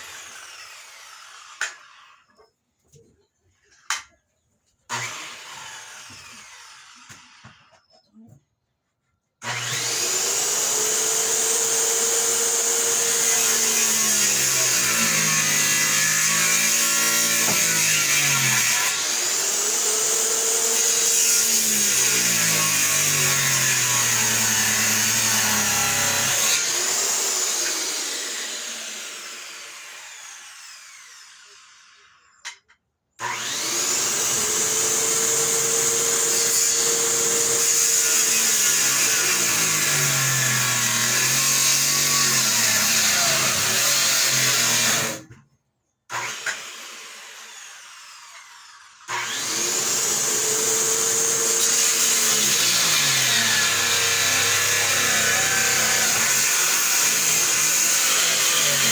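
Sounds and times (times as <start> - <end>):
circular saw cutting: 0.0 - 2.5, 4.9 - 7.8, 9.4 - 32.4, 33.2 - 45.4, 46.2 - 58.9.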